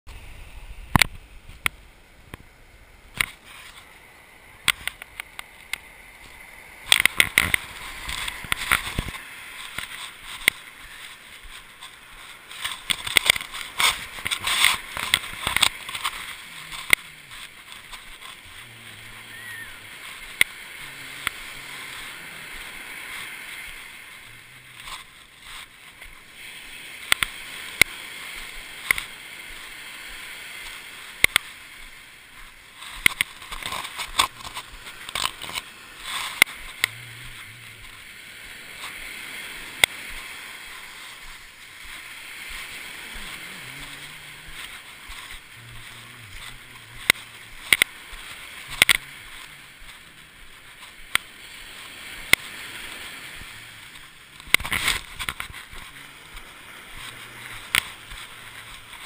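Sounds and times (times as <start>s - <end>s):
surf washing on shore: 0.1s - 59.0s.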